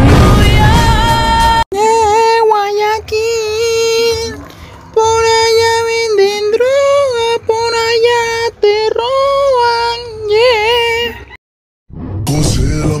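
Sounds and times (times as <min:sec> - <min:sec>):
high-pitched voice singing: 0:00.4 - 0:04.4, 0:05.0 - 0:11.4.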